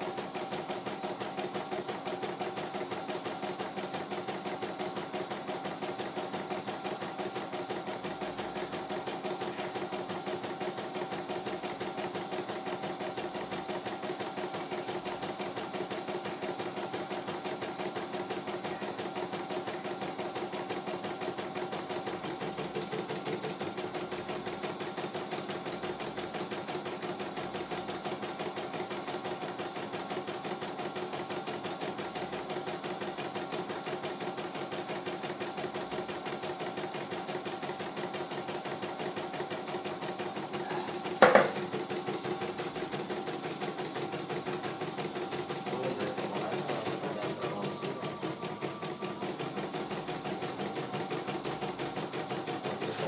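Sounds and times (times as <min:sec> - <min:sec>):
embroidery machine stitching: 0:00.0 - 0:53.0.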